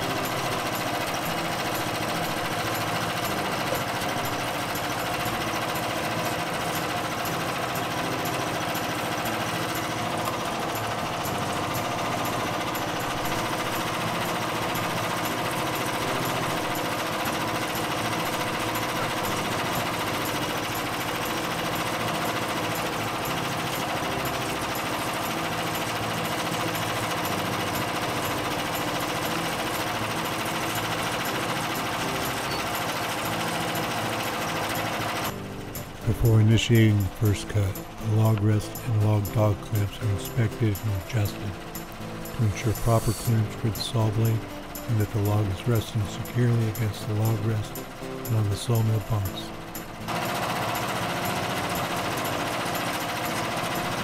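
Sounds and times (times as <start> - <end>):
small gasoline engine running: 0.0 - 54.0.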